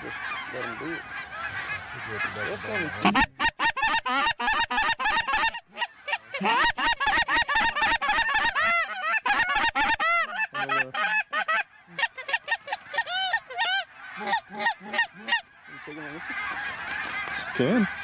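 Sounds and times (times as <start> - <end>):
geese honking and clucking: 0.0 - 18.0.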